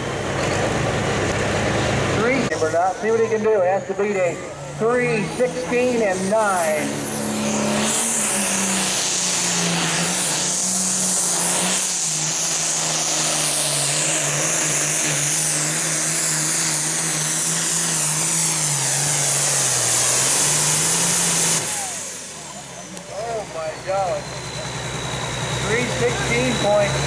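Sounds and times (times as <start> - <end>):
diesel tractor engine under load: 0.0 - 27.0
turbocharger hissing: 0.6 - 27.0.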